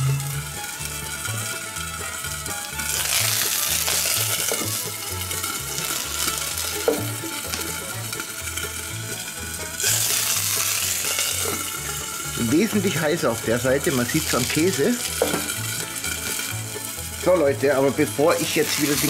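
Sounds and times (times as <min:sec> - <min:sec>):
background music bass line: 0:00.0 - 0:19.0
food sizzling on hot plate: 0:00.0 - 0:19.0.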